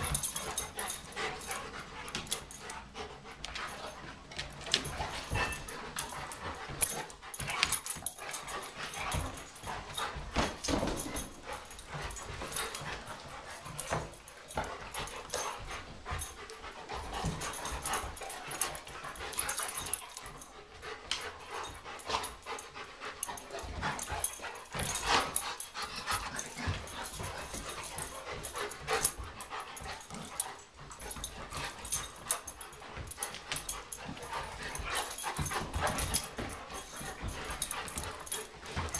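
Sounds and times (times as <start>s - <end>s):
dogs scuffling: 0.0s - 38.9s.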